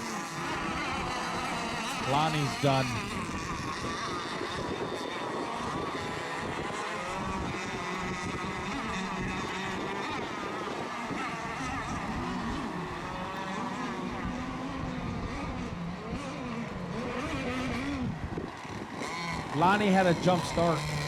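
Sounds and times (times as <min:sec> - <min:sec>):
model boat engines: 0:00.0 - 0:21.0.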